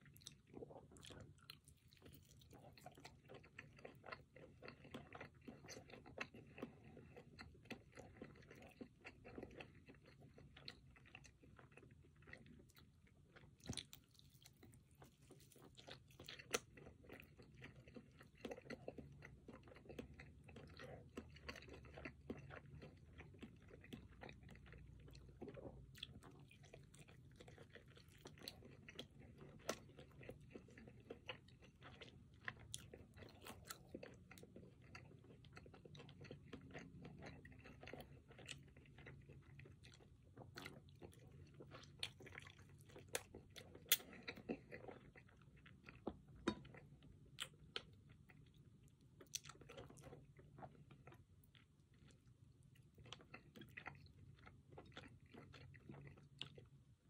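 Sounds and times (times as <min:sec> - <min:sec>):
chewing and biting chicken: 0:00.0 - 0:57.0.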